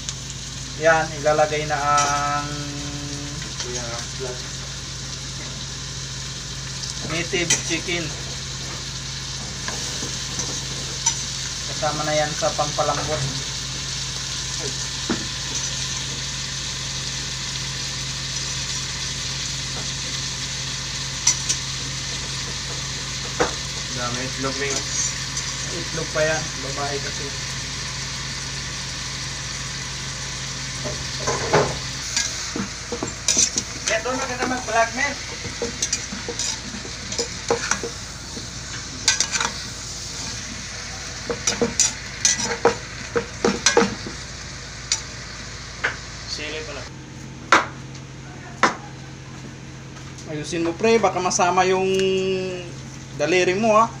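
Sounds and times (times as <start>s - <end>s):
chicken sizzling in hot oil: 0.0s - 46.9s
steady low hum: 0.0s - 54.0s.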